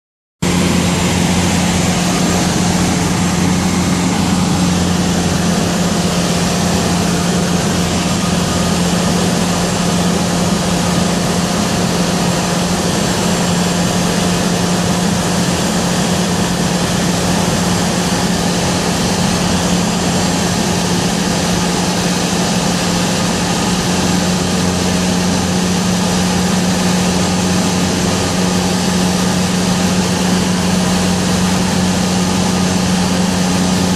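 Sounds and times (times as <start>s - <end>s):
airplane engine and propeller: 0.4s - 33.9s.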